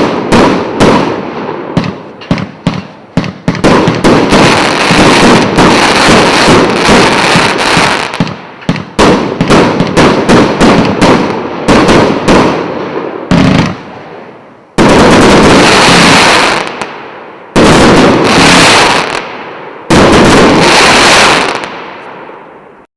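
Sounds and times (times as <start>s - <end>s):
continuous loud fireworks noise: 0.0s - 22.8s
fireworks sharp bangs: 0.0s - 22.8s.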